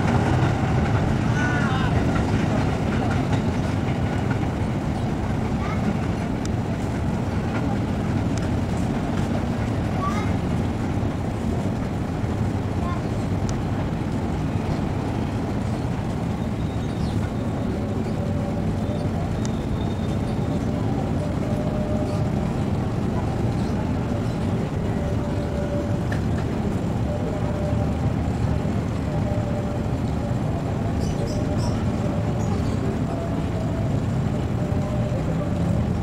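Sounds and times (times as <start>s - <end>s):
electric train rumbling: 0.0s - 36.0s
faint voices: 0.0s - 36.0s.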